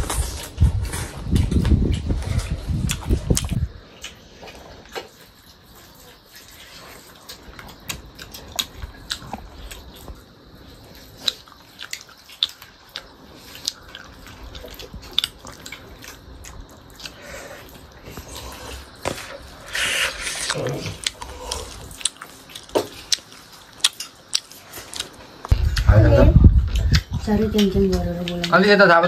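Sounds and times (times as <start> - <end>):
chewing and mouth sounds: 0.0 - 28.6.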